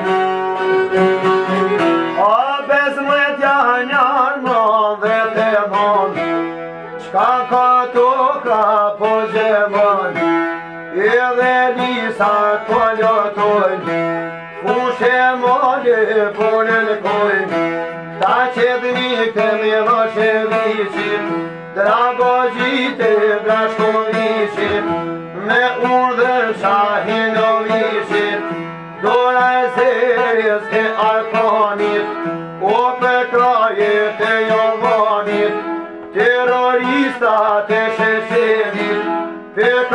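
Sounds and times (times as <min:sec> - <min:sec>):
strummed lute: 0:00.0 - 0:39.9
violin: 0:00.0 - 0:39.9
man singing: 0:01.6 - 0:39.9.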